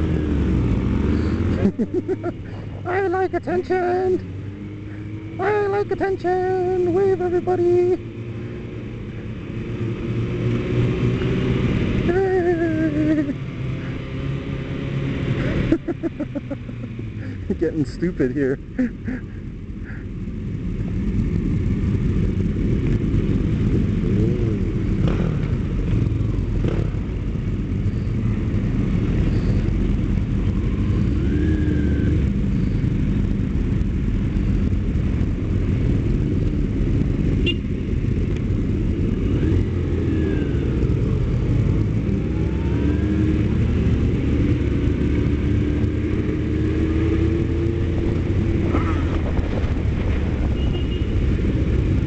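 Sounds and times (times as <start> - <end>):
motorcycle engines droning: 0.0 - 52.0.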